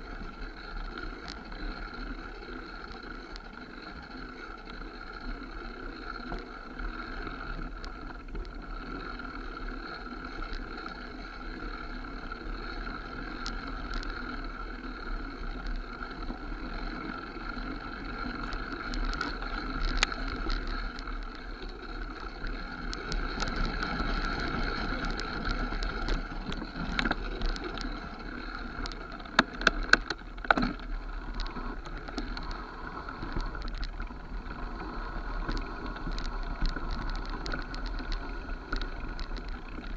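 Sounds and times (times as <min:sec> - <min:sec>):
bike tyres rolling on dirt: 0:00.0 - 0:39.9.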